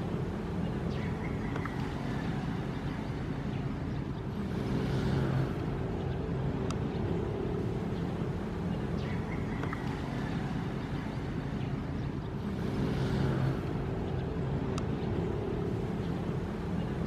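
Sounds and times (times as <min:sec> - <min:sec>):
ocean waves rumbling: 0:00.0 - 0:17.0.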